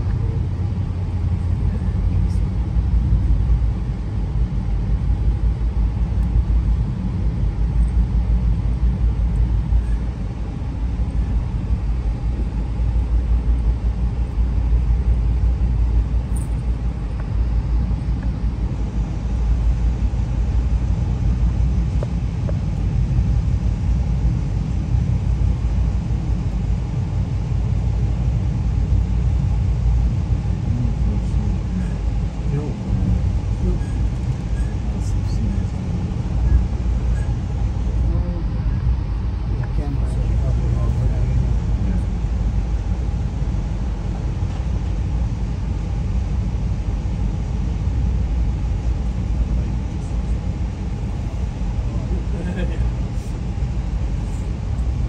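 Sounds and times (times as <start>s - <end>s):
train rumble from inside car: 0.0s - 23.7s, 28.0s - 55.0s.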